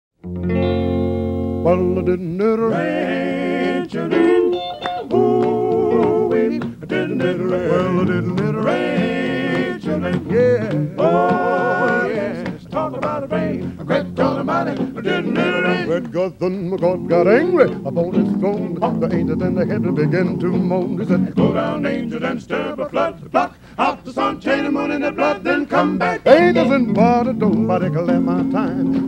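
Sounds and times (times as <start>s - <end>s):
guitar: 0.2s - 29.0s
male vocal group singing in harmony: 1.7s - 29.0s.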